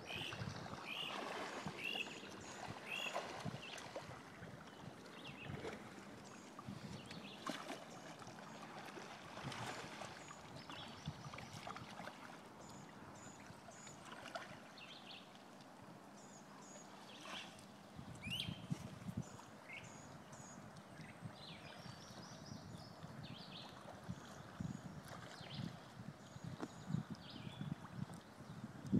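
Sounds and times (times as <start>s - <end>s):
kayak paddle splashing: 0.0s - 15.8s, 16.7s - 28.4s.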